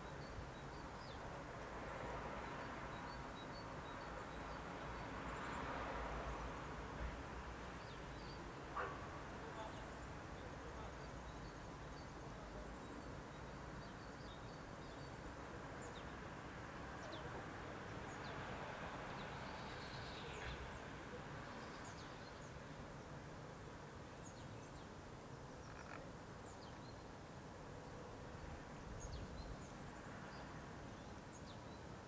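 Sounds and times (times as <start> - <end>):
faint outdoor hiss: 0.0 - 32.0.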